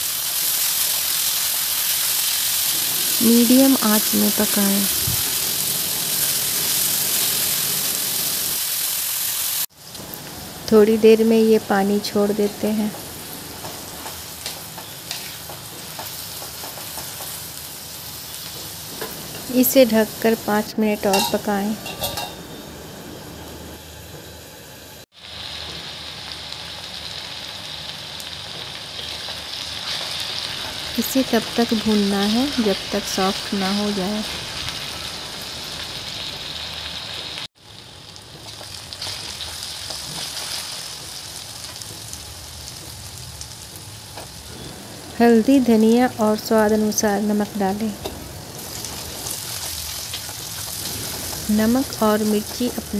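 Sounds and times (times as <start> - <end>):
mushrooms sizzling in oil: 0.0 - 24.0, 25.0 - 52.9.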